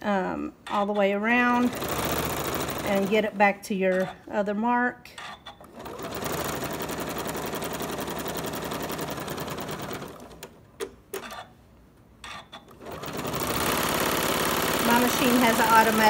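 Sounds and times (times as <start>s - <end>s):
sewing machine stitching: 0.6s - 4.3s, 5.2s - 11.5s, 12.2s - 16.0s.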